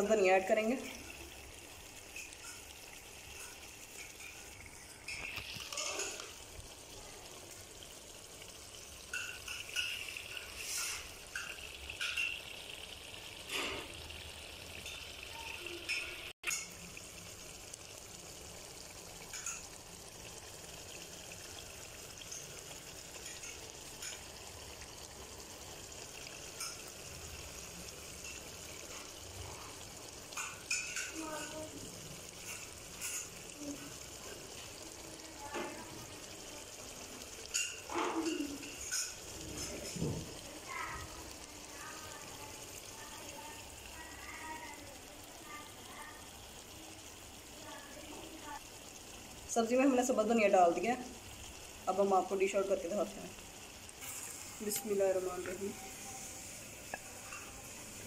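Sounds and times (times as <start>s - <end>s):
curry simmering in a pot: 0.0s - 58.0s.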